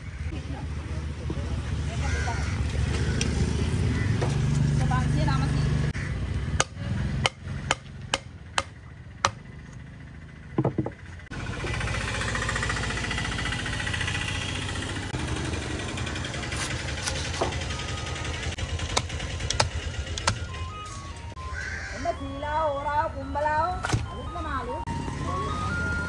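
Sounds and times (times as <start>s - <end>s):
engine-like hum with rattling: 0.0s - 26.0s.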